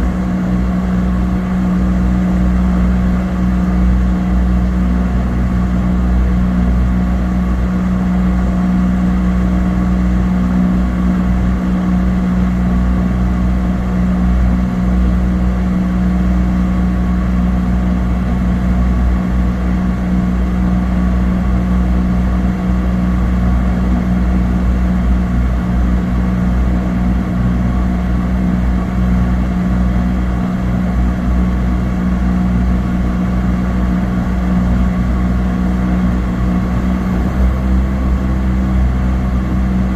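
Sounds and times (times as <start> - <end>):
turboprop engine drone in cabin: 0.0 - 39.9.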